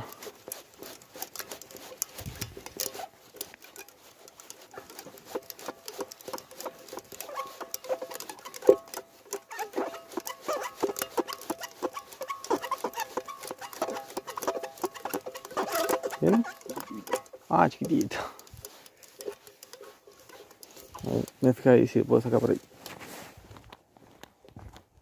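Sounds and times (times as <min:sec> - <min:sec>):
fishing reel clicking: 0:00.0 - 0:21.5.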